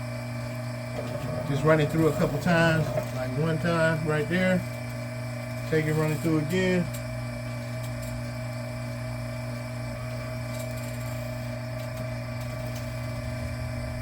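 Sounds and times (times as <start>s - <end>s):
machine motor humming: 0.0s - 14.0s.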